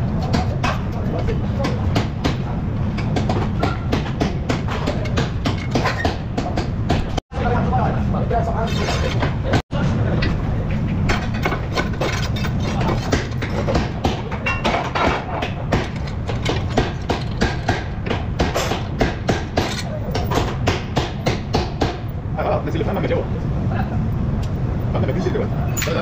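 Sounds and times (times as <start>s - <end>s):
low workshop rumble: 0.0s - 26.0s.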